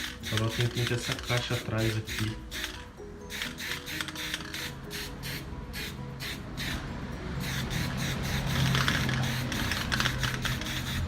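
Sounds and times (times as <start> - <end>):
spray can hissing bursts: 0.0 - 6.8, 7.4 - 11.0.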